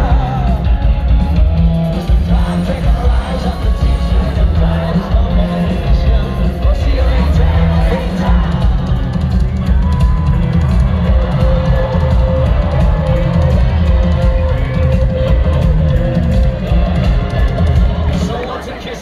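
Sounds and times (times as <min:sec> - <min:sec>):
heavy bass drum: 0:00.0 - 0:18.4
rock band playing live: 0:00.0 - 0:19.0.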